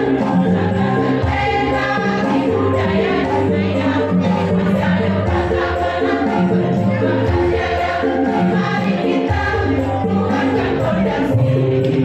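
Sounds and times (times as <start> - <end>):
women's choir singing a hymn: 0.0 - 12.0.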